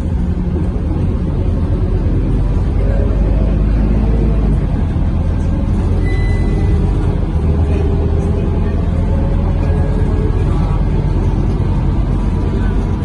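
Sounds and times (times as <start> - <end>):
bus diesel engine drone: 0.0 - 13.0
road noise: 0.0 - 13.0.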